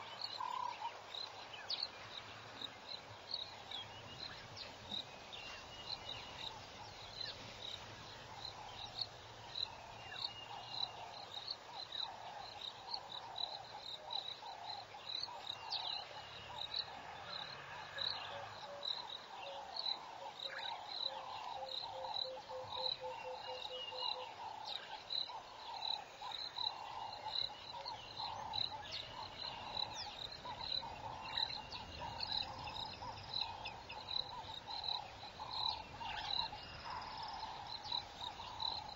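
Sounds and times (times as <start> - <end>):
high cricket chirp: 0.0 - 38.9
low insect notes: 0.0 - 38.9
pulsing insect chorus: 0.0 - 38.9.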